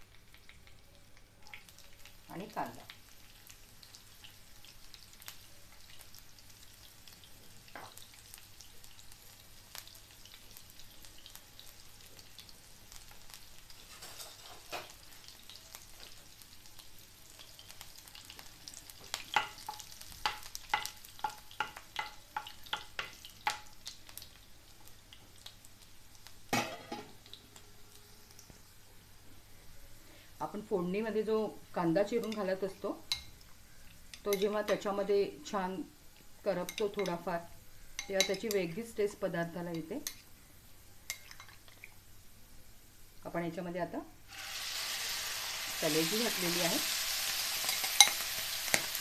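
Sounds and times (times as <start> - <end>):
onion sizzling in oil: 0.0 - 49.0.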